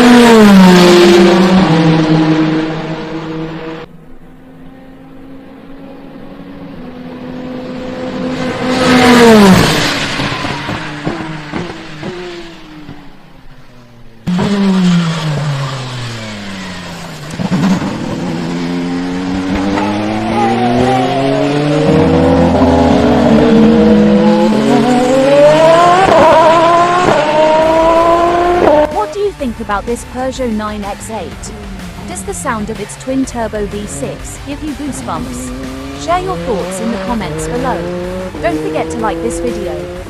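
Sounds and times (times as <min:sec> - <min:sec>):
race car engine passing: 0:00.0 - 0:40.0.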